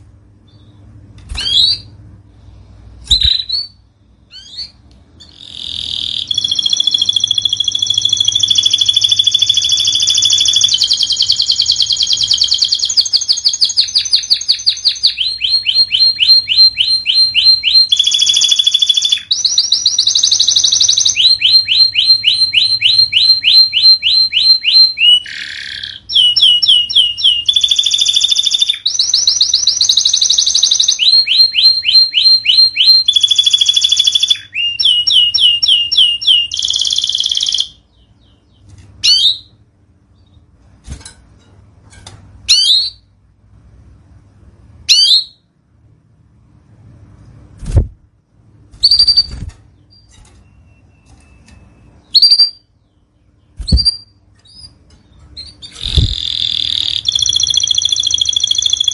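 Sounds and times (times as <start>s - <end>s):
canary chirps: 0.3s - 2.0s, 3.0s - 40.6s, 42.4s - 43.2s, 44.8s - 45.6s, 48.7s - 58.9s
canary singing trills: 0.4s - 2.0s, 3.1s - 40.6s, 42.4s - 43.1s, 44.8s - 45.5s, 48.8s - 58.9s.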